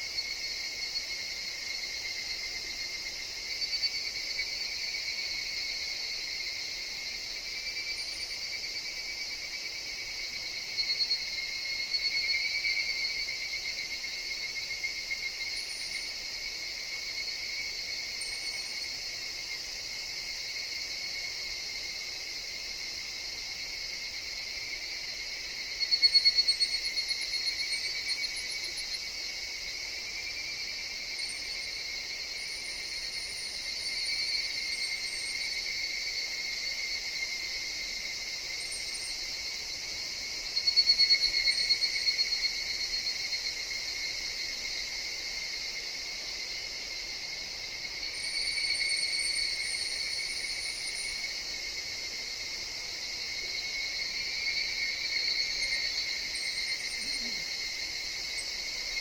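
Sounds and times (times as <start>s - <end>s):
cicadas calling in chorus: 0.0s - 59.0s
faint high insect chirps: 0.0s - 59.0s.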